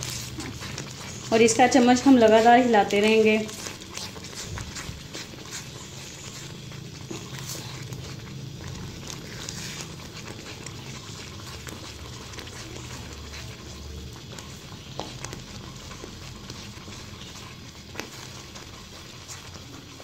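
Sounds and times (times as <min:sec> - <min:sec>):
spatula stirring thick mixture: 0:00.0 - 0:20.0.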